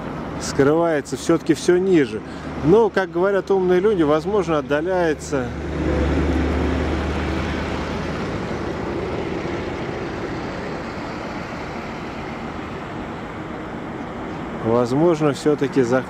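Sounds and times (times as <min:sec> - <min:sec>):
steady traffic hiss: 0:00.0 - 0:16.0
vehicle rumble: 0:00.0 - 0:16.0.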